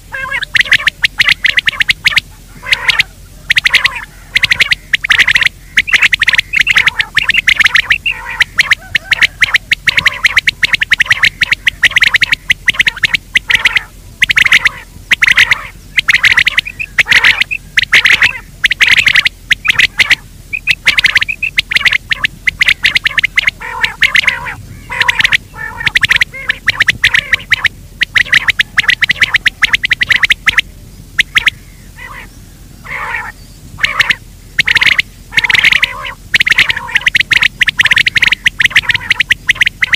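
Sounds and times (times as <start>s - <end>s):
recorded game bird calls: 0.0s - 39.9s.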